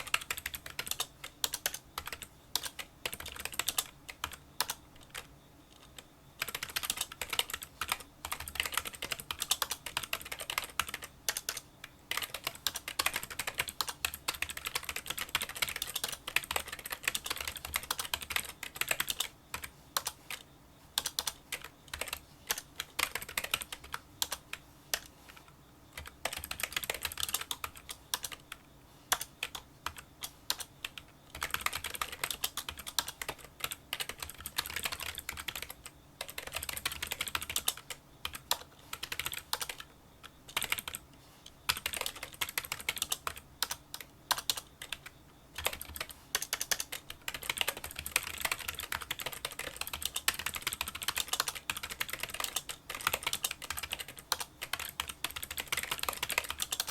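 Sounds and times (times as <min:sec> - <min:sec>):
fast typing on keyboard: 0:00.0 - 0:39.9, 0:40.5 - 0:41.0, 0:41.7 - 0:56.9.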